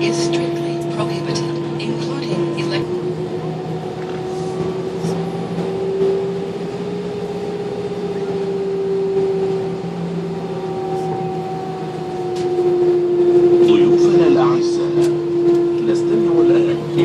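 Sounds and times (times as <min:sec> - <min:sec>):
jet engines idling whine: 0:00.0 - 0:17.0.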